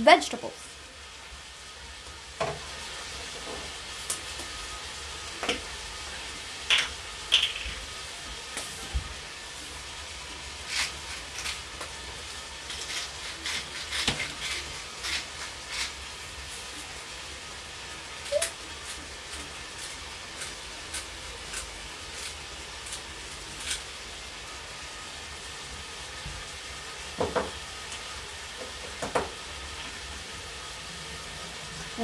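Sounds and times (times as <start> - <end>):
vegetables sizzling in a pot: 0.0 - 32.0.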